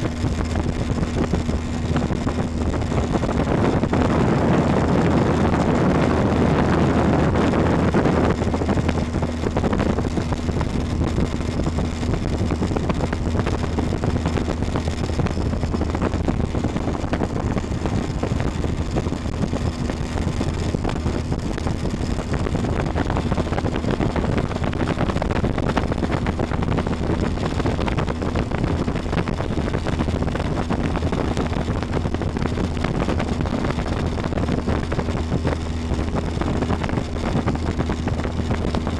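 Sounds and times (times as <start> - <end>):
motorboat engine running: 0.0 - 38.9
rushing wind and water: 0.0 - 38.9.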